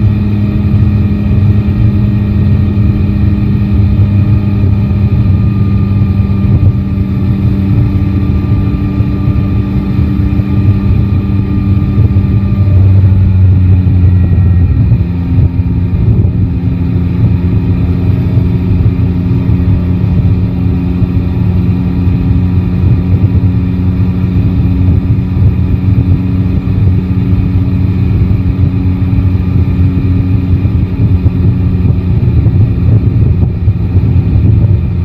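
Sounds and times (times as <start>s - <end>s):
motorcycle engine running at low revs: 0.0s - 35.0s.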